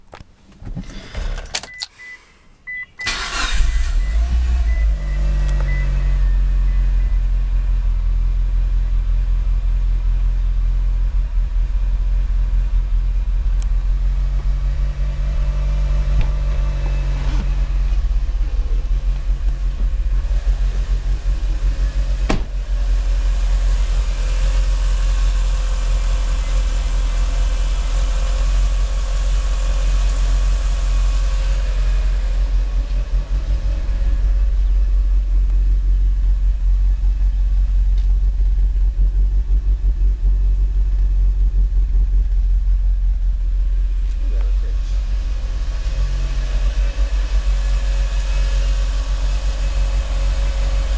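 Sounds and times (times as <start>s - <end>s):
car engine starting: 0.6s - 50.9s
engine rough idle: 3.1s - 50.9s.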